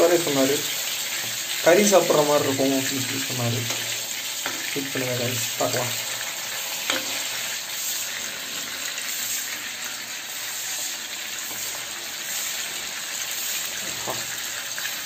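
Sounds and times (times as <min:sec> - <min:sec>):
fish frying in hot oil: 0:00.0 - 0:15.0.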